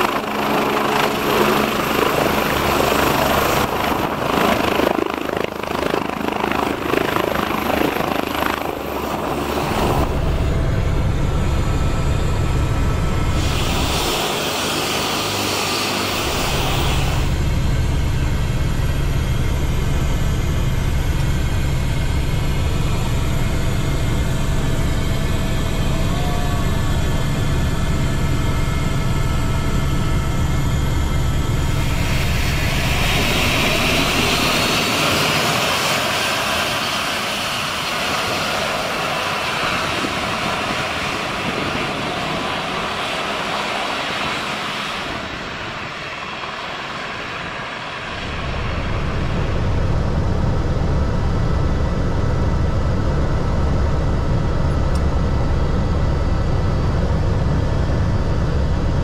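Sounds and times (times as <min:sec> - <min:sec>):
aircraft turbines whining: 0:00.0 - 0:59.0
helicopter cockpit rumble: 0:00.0 - 0:59.0.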